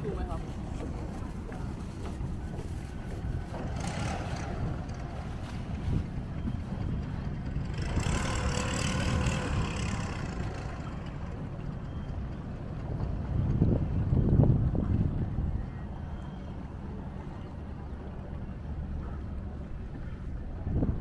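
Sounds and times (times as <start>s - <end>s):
boat engines: 0.0s - 21.0s
wind rumble on microphone: 0.0s - 21.0s.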